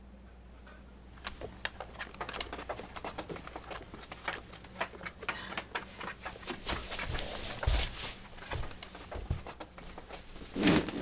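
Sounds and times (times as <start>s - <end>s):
dog claws clicking on hard floor: 1.2s - 10.2s.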